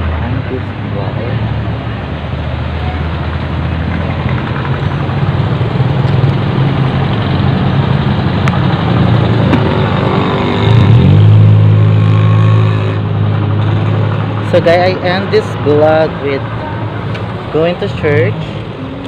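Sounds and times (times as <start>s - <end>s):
vehicle engine revving up: 0.0s - 15.5s.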